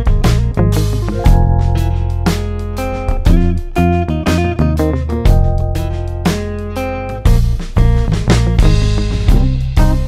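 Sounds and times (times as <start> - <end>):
instrumental music with guitar: 0.0 - 10.0.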